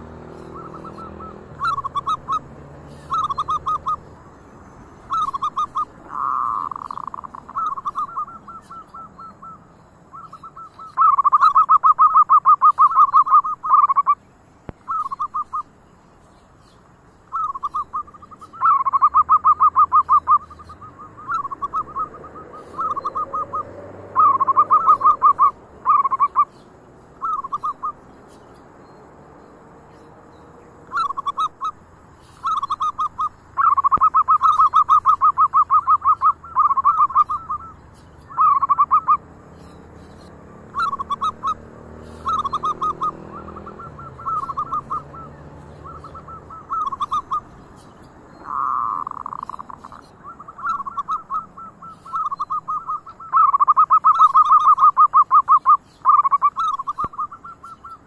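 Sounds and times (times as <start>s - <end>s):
doves cooing: 0.0s - 14.2s, 14.8s - 15.8s, 17.2s - 28.7s, 29.9s - 58.0s.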